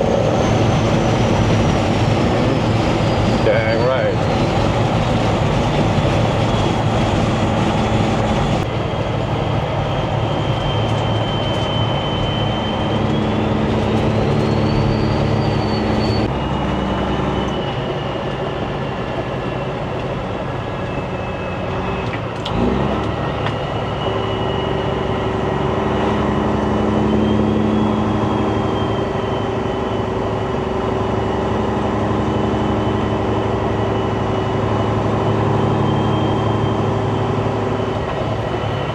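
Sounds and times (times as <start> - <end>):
diesel truck engine drone: 0.0 - 38.9.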